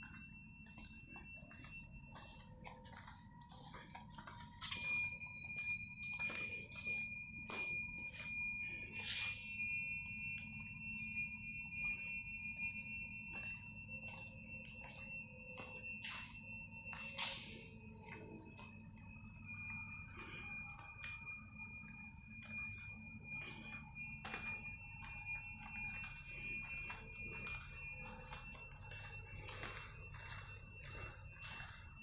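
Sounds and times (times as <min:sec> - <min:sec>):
steady high beeping alarm tone: 0:00.0 - 0:32.0.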